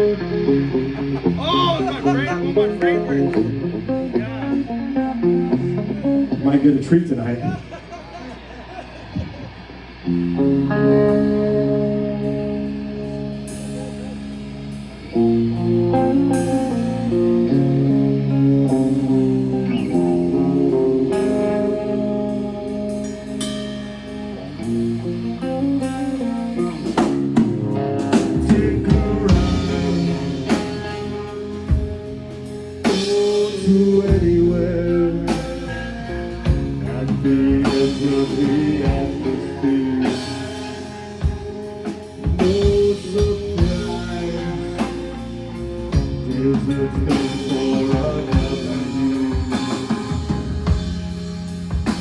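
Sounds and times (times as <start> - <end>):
guitars: 0.0 - 52.0
live rock band playing: 0.0 - 52.0
drum kit: 7.5 - 52.0.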